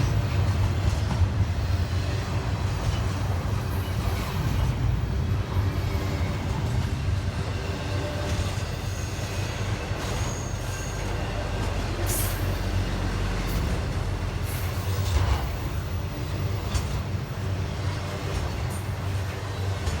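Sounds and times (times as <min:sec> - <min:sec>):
train wheel squeal: 0:00.0 - 0:20.0
train wheels rumbling on rail: 0:00.0 - 0:20.0.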